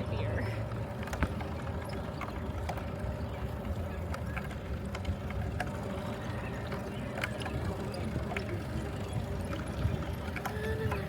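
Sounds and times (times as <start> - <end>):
bicycle clicks and rattles: 0.0 - 11.0
wind rumble on microphone: 0.8 - 11.0.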